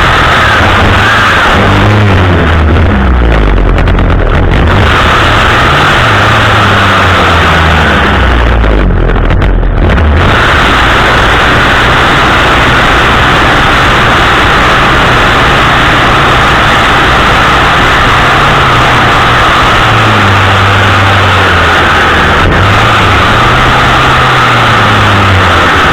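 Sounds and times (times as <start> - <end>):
chainsaw revving and idling: 0.0 - 25.9.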